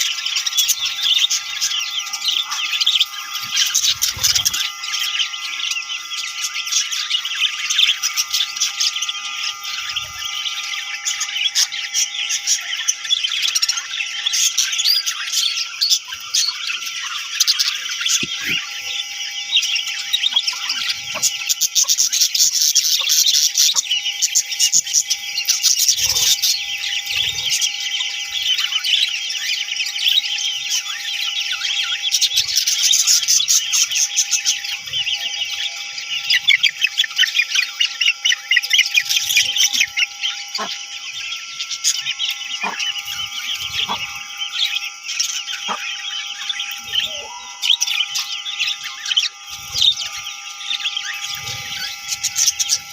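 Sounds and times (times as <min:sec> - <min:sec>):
budgerigars chirping: 0:00.0 - 0:52.9
faint steady hum: 0:00.0 - 0:52.9.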